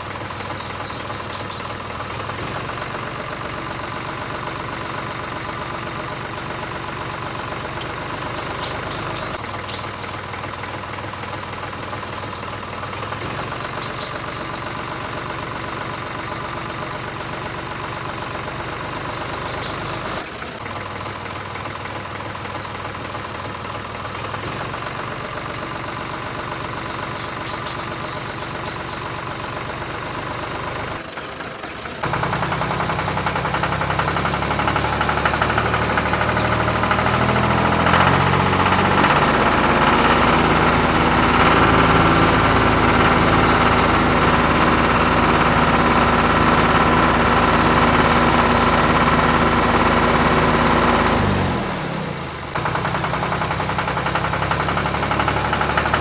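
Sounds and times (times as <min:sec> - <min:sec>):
diesel engine idling with knock: 0:00.0 - 0:56.0
engine running hard: 0:00.0 - 0:56.0.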